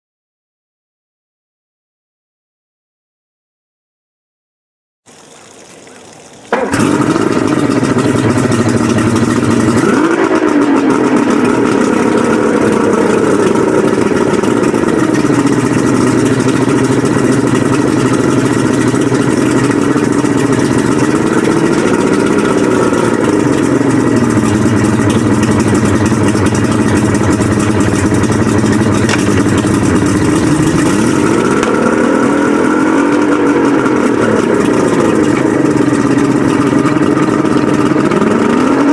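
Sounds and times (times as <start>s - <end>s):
outboard motors idling: 5.1s - 38.9s.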